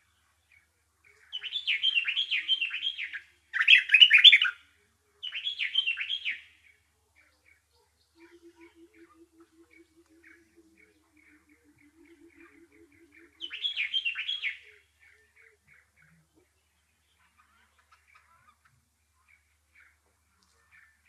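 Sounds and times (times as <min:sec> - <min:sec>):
faint bird chirps: 0:00.0 - 0:21.0
songbird chattering song: 0:00.0 - 0:21.0.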